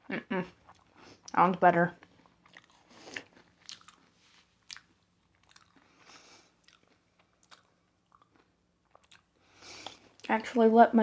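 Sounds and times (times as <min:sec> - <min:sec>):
chewing crunches: 0:00.5 - 0:01.4, 0:02.0 - 0:10.3.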